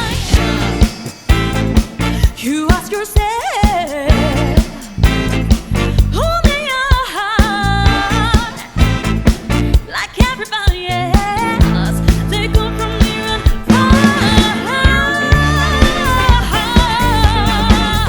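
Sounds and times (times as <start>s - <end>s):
steady bass: 0.0s - 2.4s, 4.1s - 6.6s, 7.4s - 9.9s, 10.9s - 18.0s
regular drum beat: 0.0s - 18.0s.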